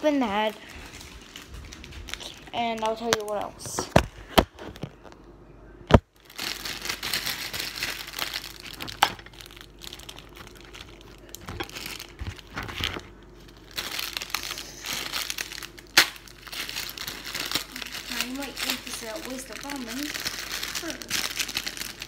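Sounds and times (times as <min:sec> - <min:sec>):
plastic wrapper crinkling: 0:00.0 - 0:05.2, 0:05.9 - 0:22.0.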